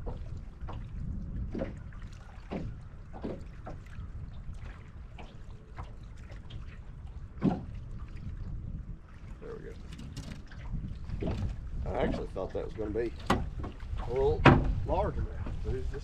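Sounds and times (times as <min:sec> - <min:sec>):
small waves slapping boat hull: 0:00.0 - 0:16.0
wind rumble on microphone: 0:00.0 - 0:16.0.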